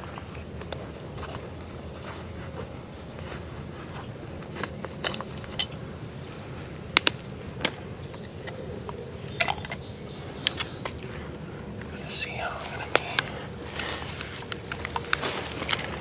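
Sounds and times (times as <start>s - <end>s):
dry leaves and twigs crackling underfoot: 0.0s - 16.0s
high insect drone: 0.0s - 16.0s.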